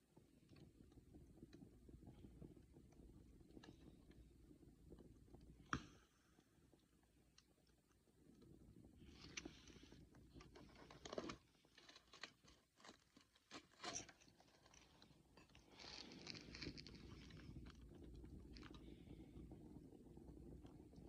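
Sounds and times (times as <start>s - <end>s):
bonfire crackling and popping: 0.1s - 21.0s.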